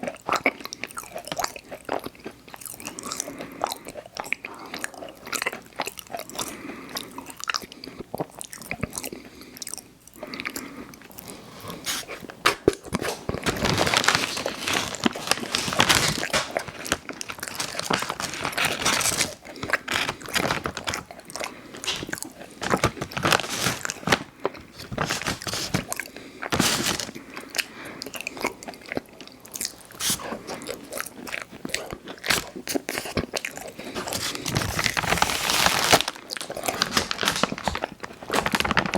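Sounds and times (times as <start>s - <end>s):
biting and chewing cookies: 0.0s - 38.9s.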